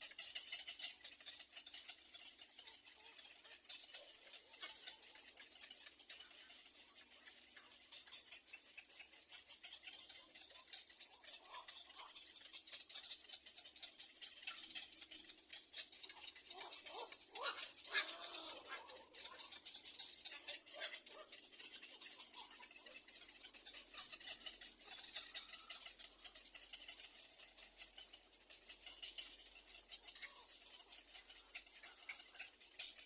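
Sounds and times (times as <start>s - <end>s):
bird nestlings clicking chatter: 0.0s - 33.0s.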